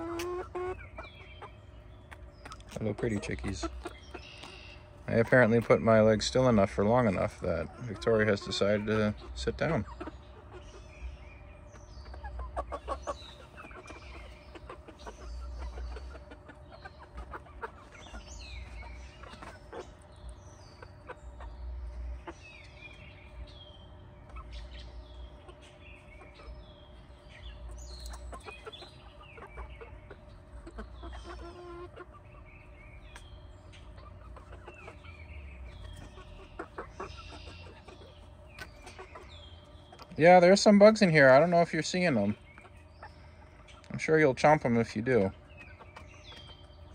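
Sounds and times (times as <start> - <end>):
hens clucking and chirping: 0.0 - 46.9.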